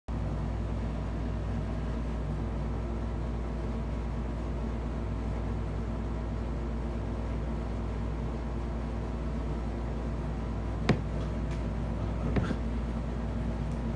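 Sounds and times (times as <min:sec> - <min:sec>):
low room hum: 0:00.1 - 0:13.9.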